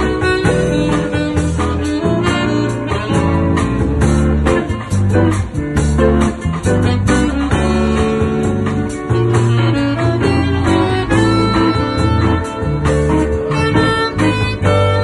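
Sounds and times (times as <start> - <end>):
guitar: 0.0 - 15.0
live band playing bossa nova: 0.0 - 15.0.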